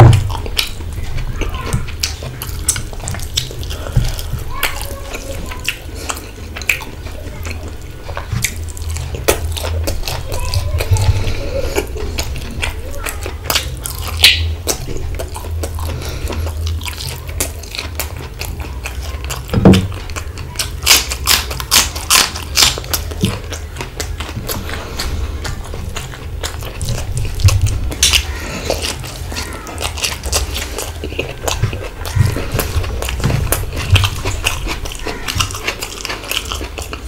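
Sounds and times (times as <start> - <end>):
fingers squelching in food: 0.0 - 37.0
steady low hum: 0.0 - 37.0
wet chewing and lip-smacking: 0.0 - 37.0.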